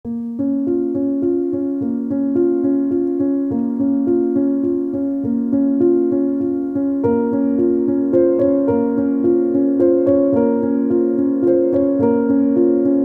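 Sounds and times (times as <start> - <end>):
keyboard playing repeating notes: 0.1 - 13.0.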